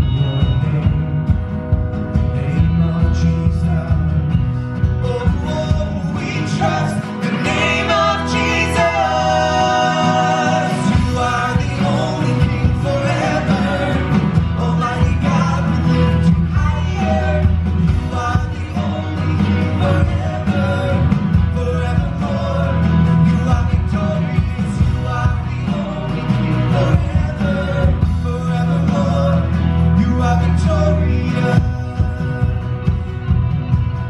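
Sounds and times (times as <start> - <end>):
worship band playing: 0.0 - 34.0
person singing: 2.2 - 33.2.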